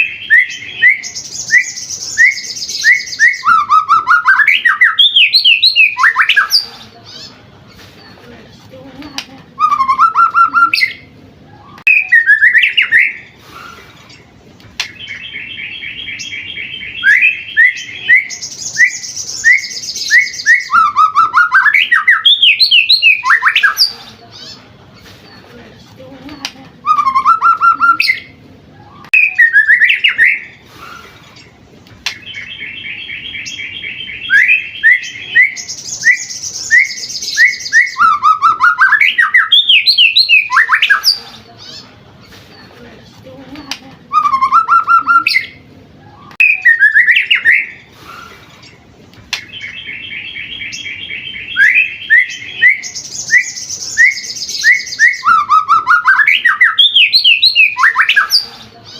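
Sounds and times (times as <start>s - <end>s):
bird singing trills and whistles: 0.0s - 7.3s, 9.6s - 14.2s, 14.8s - 24.6s, 26.8s - 41.8s, 44.1s - 58.9s.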